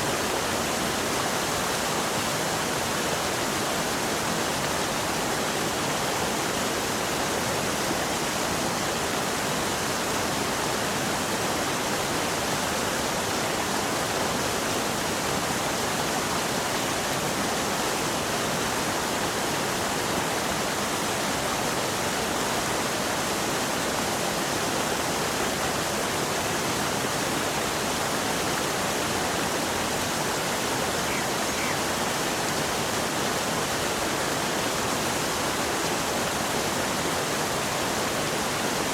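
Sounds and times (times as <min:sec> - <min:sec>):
fast-flowing water rushing: 0:00.0 - 0:38.9.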